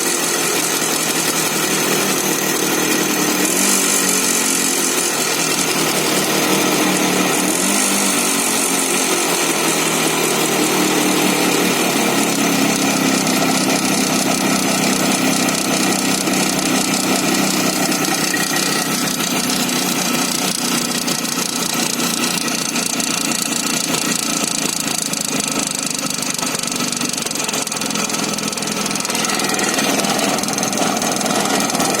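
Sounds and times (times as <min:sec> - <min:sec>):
motorcycle engine knocking: 0:00.0 - 0:32.0.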